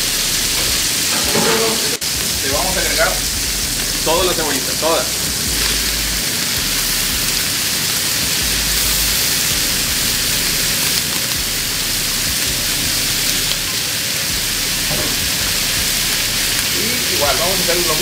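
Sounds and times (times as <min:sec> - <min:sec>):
bacon and onions sizzling: 0:00.0 - 0:18.0.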